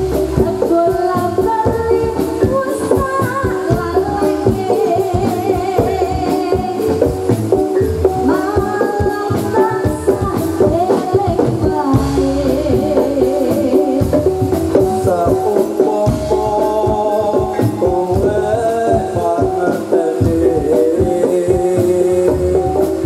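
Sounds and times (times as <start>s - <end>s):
hand-drum strokes: 0.0s - 23.0s
person singing: 0.0s - 23.0s.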